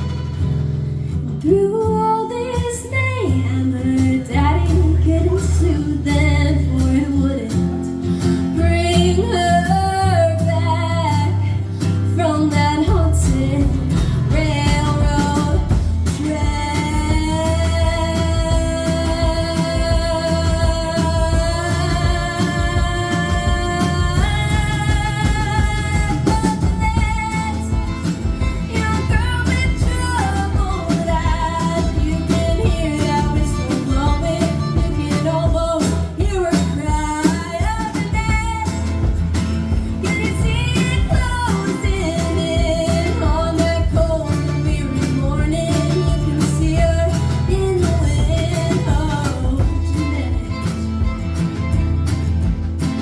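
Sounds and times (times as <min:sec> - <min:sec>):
bass: 0:00.0 - 0:53.0
guitar: 0:00.0 - 0:53.0.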